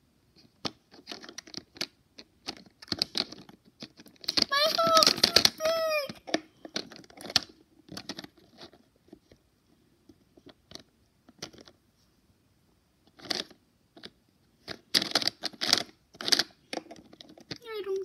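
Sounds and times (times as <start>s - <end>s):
plastic toy clicks and rustles: 0.6s - 9.4s, 10.4s - 11.8s, 13.0s - 18.0s.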